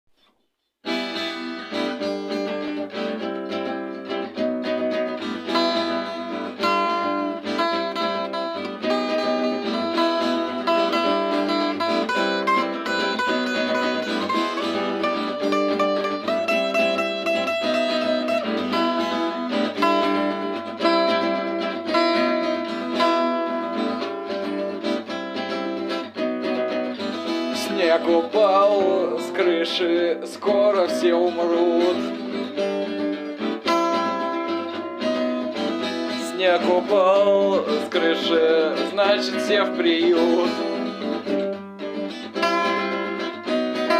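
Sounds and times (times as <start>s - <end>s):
acoustic guitar playing: 0.8s - 43.9s.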